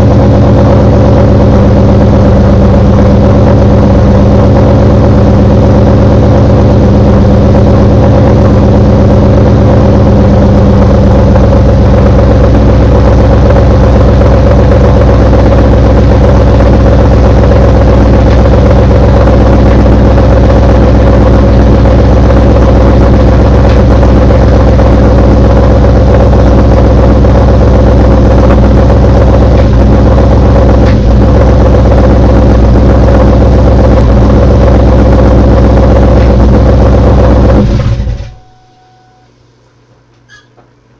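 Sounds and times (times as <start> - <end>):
car engine knocking: 0.0 - 38.5.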